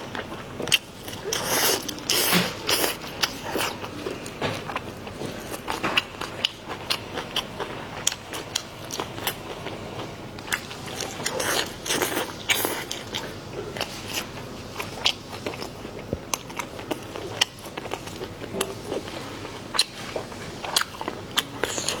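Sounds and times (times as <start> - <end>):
person chewing food: 0.1 - 22.0.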